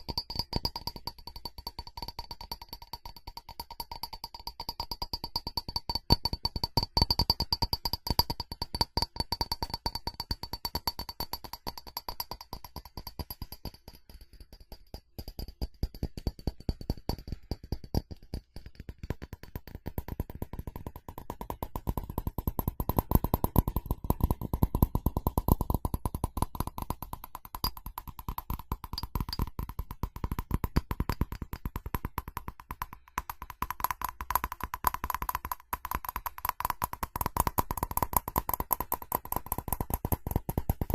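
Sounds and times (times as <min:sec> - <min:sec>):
rapid tapping on ceramic: 0:00.0 - 0:40.9.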